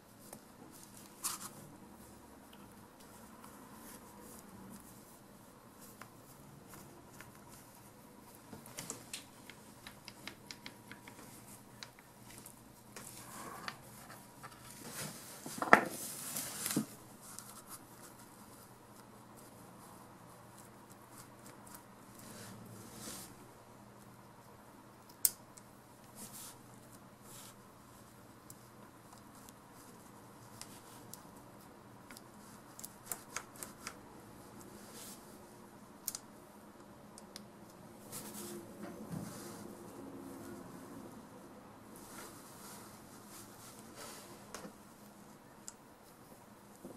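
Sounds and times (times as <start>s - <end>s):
soft rustles: 0.0s - 24.6s, 26.0s - 35.9s, 37.9s - 46.9s.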